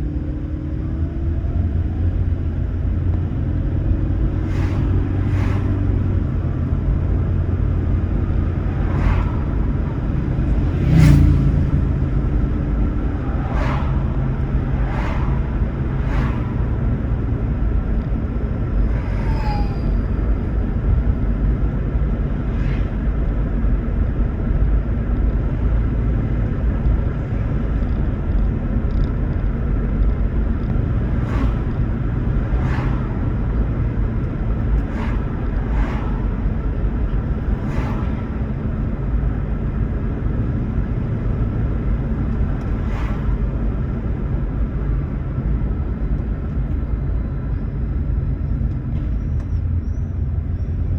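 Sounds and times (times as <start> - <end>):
road and tyre rumble: 0.0 - 50.9.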